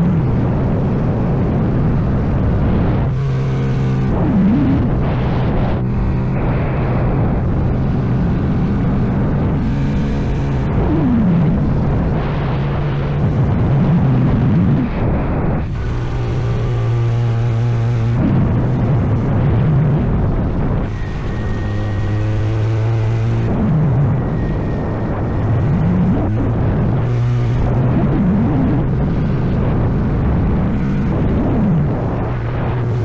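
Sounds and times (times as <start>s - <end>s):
motorcycle engine running: 0.0s - 33.0s
wind noise on microphone: 0.0s - 33.0s.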